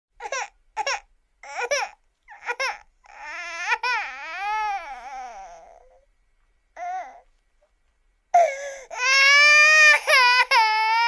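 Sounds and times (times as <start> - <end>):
baby crying: 0.2 - 6.1, 6.8 - 7.3, 8.4 - 11.0.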